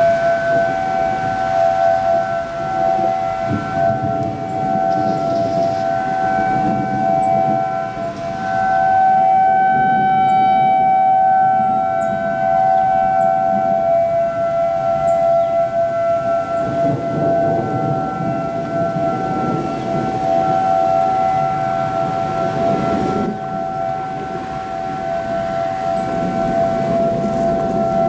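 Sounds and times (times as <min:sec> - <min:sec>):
civil defense sirens wailing: 0:00.0 - 0:28.0.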